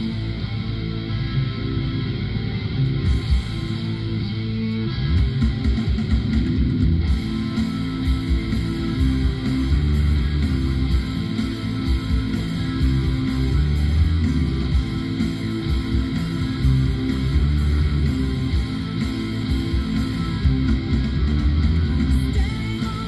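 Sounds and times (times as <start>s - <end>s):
bass guitar: 0.0s - 23.0s
electric guitar: 0.0s - 23.0s
steady drum beat: 3.0s - 4.1s, 5.0s - 23.0s.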